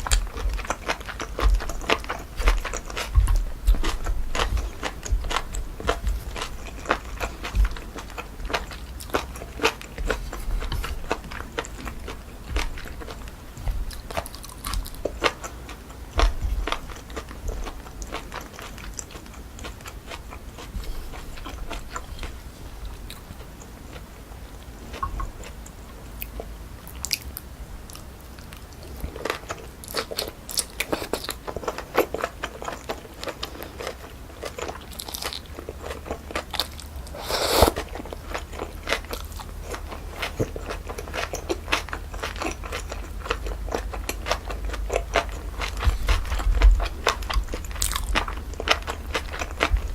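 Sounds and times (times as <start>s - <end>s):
crunching and chewing: 0.0s - 49.9s.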